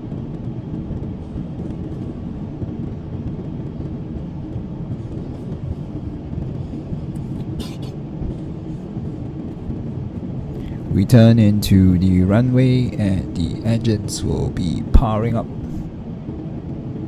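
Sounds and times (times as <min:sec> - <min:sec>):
airplane cabin engine rumble: 0:00.0 - 0:17.0
wheels rolling on taxiway: 0:00.0 - 0:17.0.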